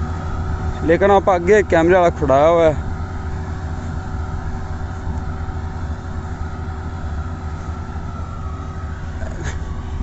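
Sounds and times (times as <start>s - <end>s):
tractor diesel engines running: 0.0s - 10.0s.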